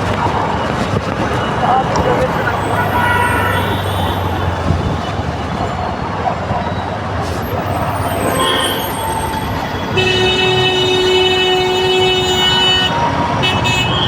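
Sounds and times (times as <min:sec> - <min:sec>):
heavy road traffic: 0:00.0 - 0:14.0.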